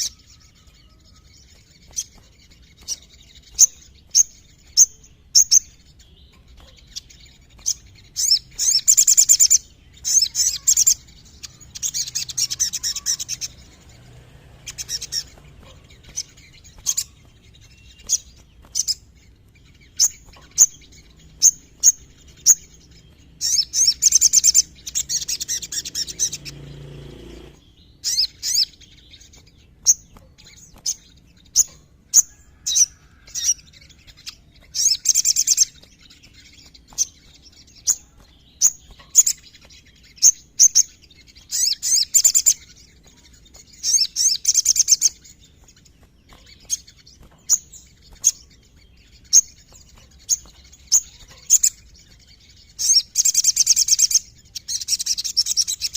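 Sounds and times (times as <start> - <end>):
bird chirping: 0.0 - 55.9
bird rattling trills: 0.0 - 55.9.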